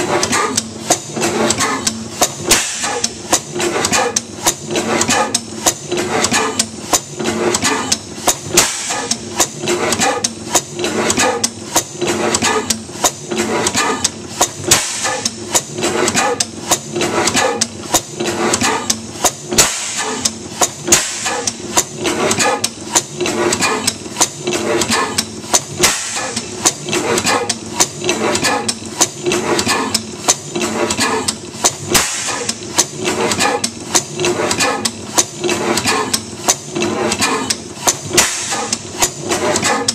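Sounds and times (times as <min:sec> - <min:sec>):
gas engine running with rhythmic clatter: 0:00.0 - 0:39.9.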